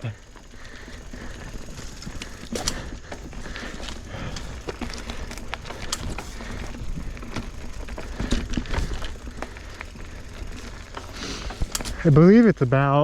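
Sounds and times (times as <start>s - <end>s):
bike clicks and rattles: 0.0s - 13.0s
tyres rumbling on dirt: 0.0s - 13.0s.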